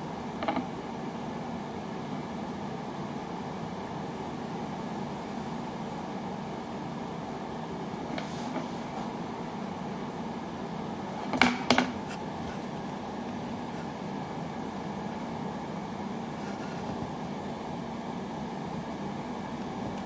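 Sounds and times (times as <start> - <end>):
microphone room hiss and hum: 0.0 - 20.0.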